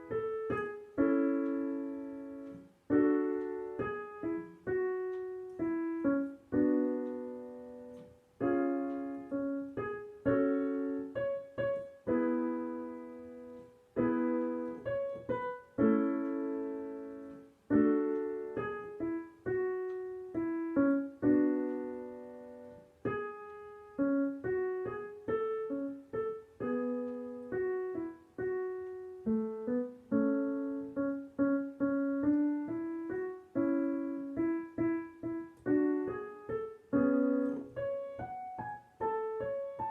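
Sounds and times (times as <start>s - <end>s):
piano notes and chords: 0.0s - 39.9s.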